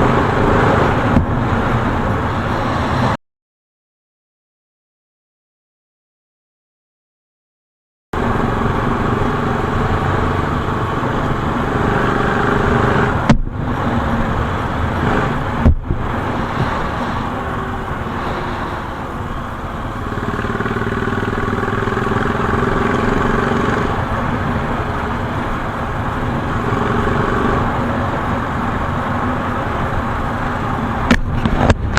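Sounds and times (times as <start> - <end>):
motorcycle engine and road noise: 0.0 - 3.2, 8.2 - 31.9.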